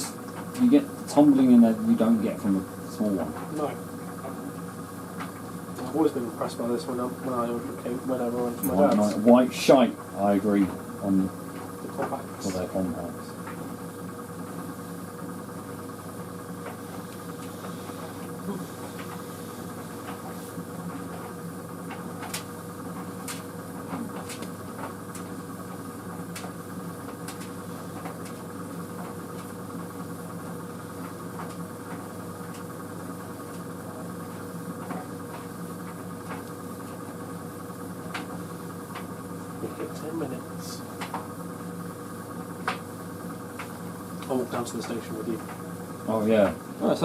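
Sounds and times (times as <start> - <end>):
tumble dryer motor hum: 0.0 - 47.0.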